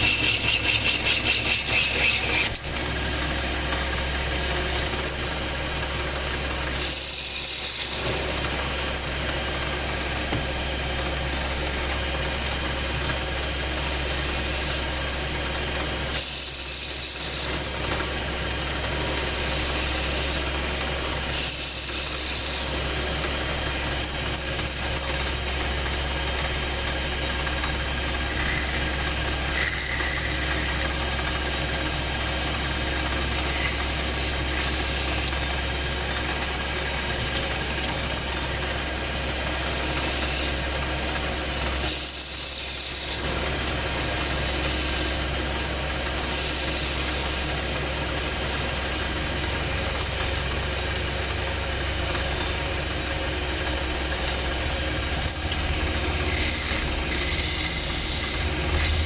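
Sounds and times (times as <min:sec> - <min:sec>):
small machine humming: 0:00.0 - 0:59.0.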